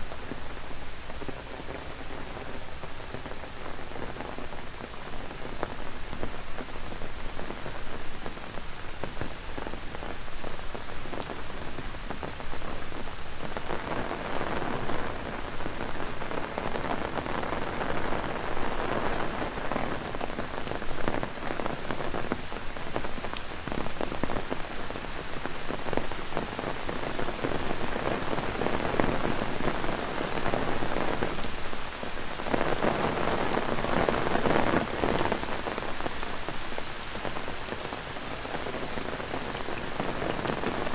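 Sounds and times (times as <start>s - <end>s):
cicada chorus: 0.0s - 40.9s
heavy rain on an umbrella: 0.0s - 40.9s.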